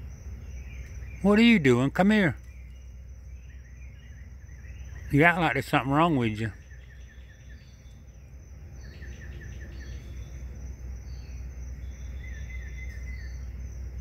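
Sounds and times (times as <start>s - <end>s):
insects trilling: 0.0s - 14.0s
low steady hum: 0.0s - 14.0s
rapid insect chirps: 0.0s - 14.0s.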